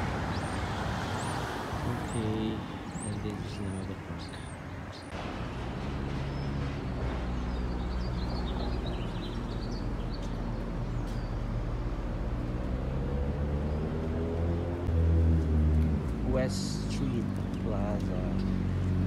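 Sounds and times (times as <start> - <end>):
birds chirping: 0.0 - 19.0
road noise: 0.0 - 19.0.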